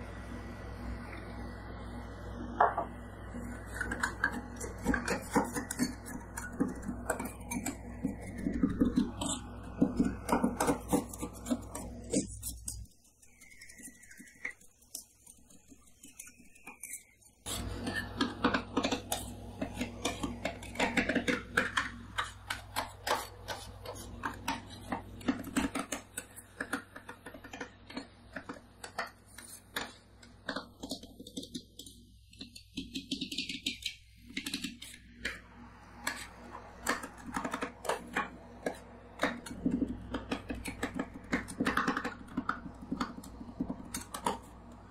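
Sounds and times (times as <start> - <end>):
metal spatulas tapping and scraping: 3.7 - 35.4, 36.0 - 44.5.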